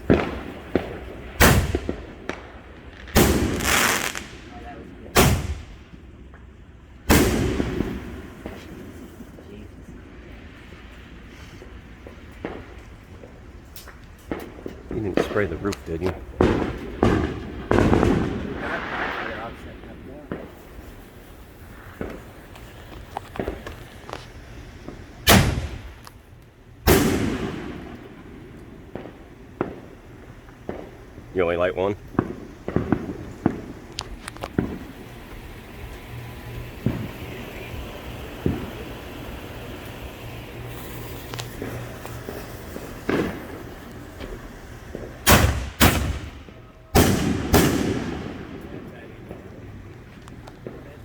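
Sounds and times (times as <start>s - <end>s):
small sharp firework pops: 0.0s - 6.5s, 7.1s - 9.6s, 11.6s - 31.0s, 31.6s - 51.0s
loud firework bangs: 0.0s - 51.0s.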